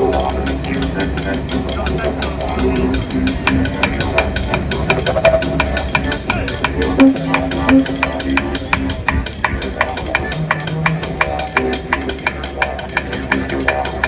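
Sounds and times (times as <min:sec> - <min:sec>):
didgeridoo droning: 0:00.0 - 0:14.0
percussion beat: 0:00.0 - 0:14.0.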